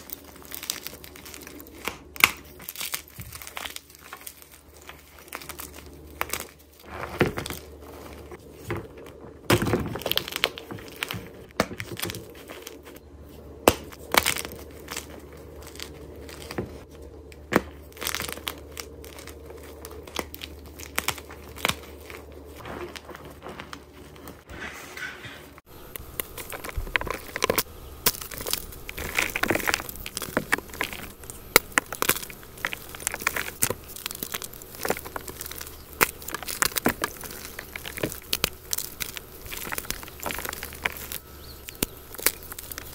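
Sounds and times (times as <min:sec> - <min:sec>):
chalk crunching and crackling: 0:00.0 - 0:42.9.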